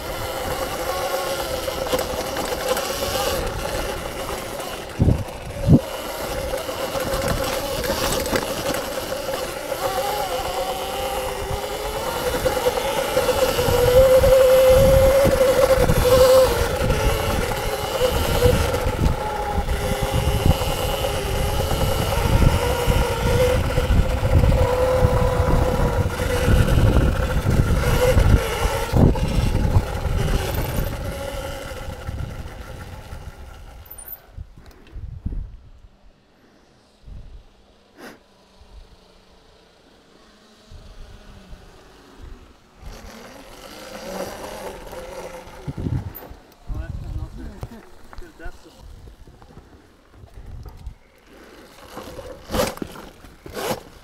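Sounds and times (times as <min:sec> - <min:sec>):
electric motor whine: 0:00.0 - 0:34.8, 0:36.9 - 0:54.0.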